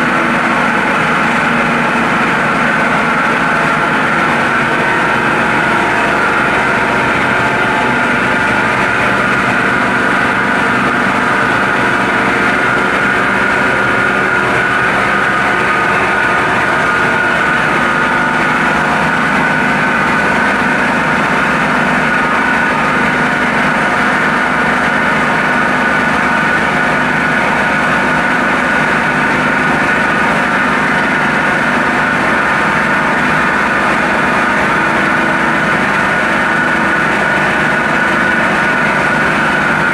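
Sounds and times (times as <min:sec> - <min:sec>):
steady high whine: 0:00.0 - 0:39.9
water turbine machine hum: 0:00.0 - 0:39.9.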